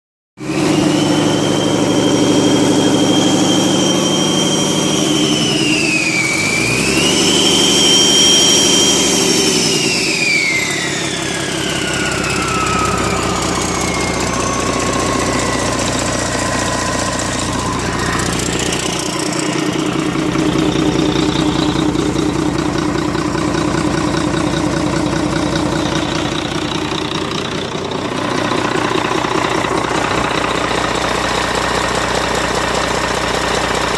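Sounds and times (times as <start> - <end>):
diesel engine running: 0.4 - 33.9
high whine: 0.5 - 33.6.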